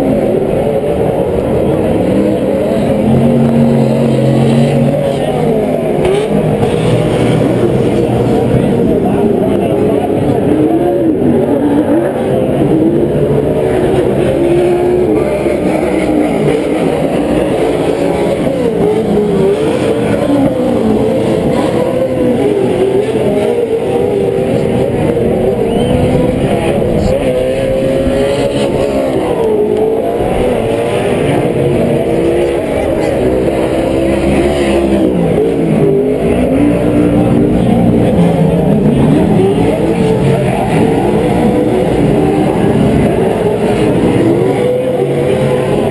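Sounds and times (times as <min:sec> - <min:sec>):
race truck engines revving: 0:00.0 - 0:45.9.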